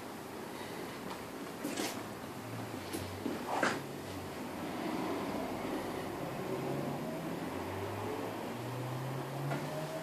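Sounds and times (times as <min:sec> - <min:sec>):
room noise hiss: 0:00.0 - 0:10.0.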